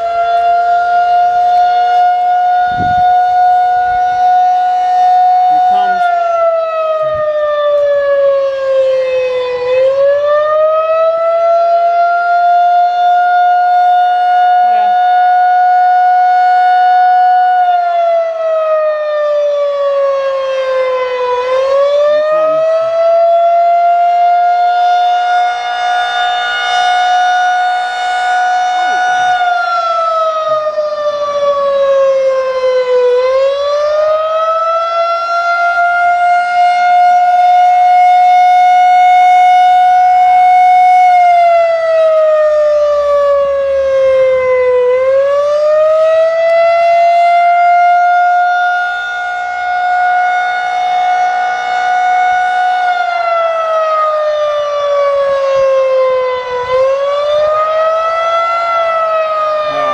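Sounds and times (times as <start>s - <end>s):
warning siren wailing: 0.0s - 59.9s.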